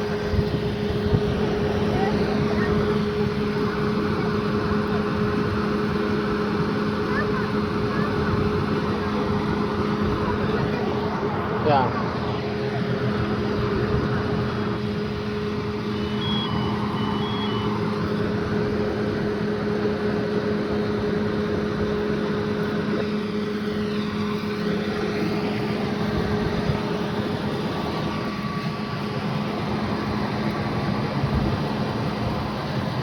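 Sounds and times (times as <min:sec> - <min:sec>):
truck engine humming: 0:00.0 - 0:33.0.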